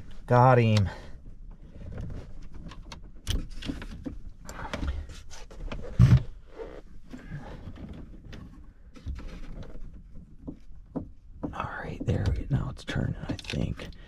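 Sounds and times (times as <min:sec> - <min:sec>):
clicks and rattles of fittings: 0:00.0 - 0:05.9, 0:07.1 - 0:14.0.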